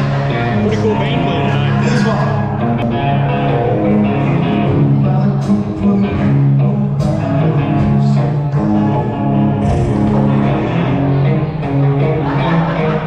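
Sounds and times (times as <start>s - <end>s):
held bass notes: 0.0s - 13.0s
live band playing: 0.0s - 13.0s.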